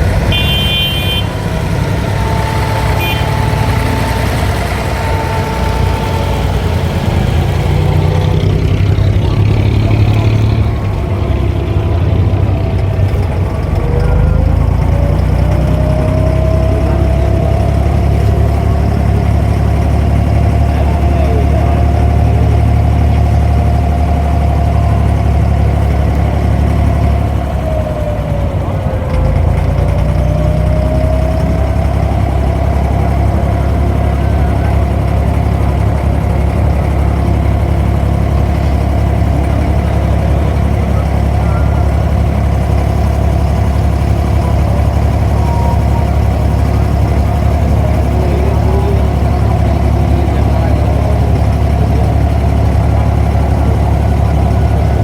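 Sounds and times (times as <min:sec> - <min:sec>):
boat diesel engine droning: 0:00.0 - 0:55.0
engine whine: 0:00.0 - 0:55.0.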